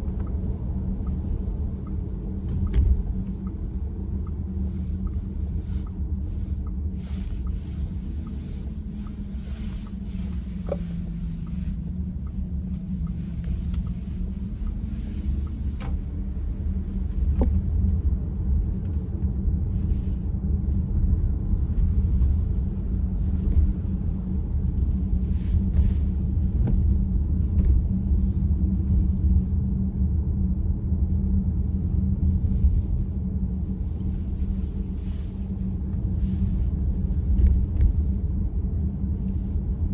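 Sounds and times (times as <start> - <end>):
car cabin engine and road rumble: 0.0 - 39.9.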